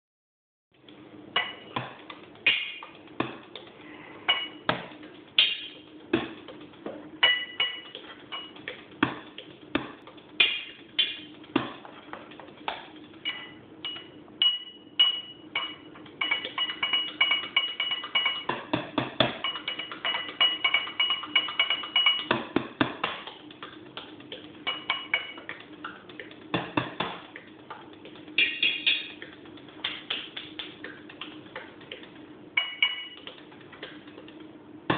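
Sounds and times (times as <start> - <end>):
sticks tapping kitchen objects: 4.3 - 34.9.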